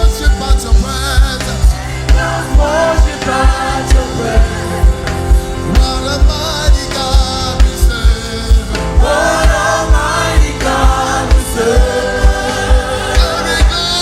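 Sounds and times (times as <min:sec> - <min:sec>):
choir singing over a band: 0:00.1 - 0:14.0.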